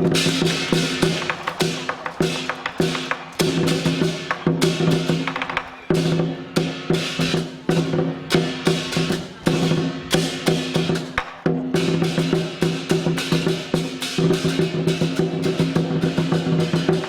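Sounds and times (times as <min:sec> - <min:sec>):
cymbals crashing: 0:00.0 - 0:17.0
drum beating brisk rhythm: 0:00.0 - 0:17.0.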